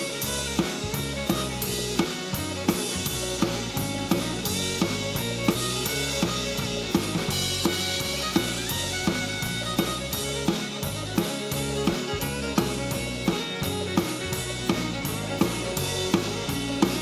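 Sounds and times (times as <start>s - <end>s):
bass guitar: 0.0s - 17.0s
country-rock band recording: 0.0s - 17.0s
drum kit playing: 0.0s - 17.0s.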